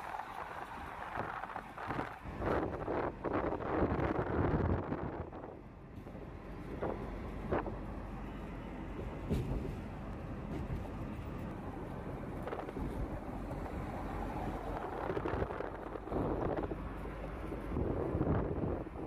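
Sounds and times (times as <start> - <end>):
road and wind noise: 0.0 - 19.0.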